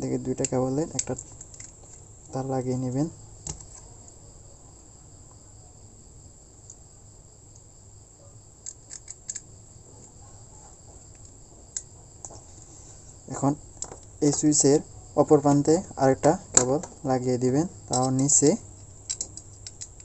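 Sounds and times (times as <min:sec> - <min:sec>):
high-pitched background hiss: 0:00.0 - 0:20.0.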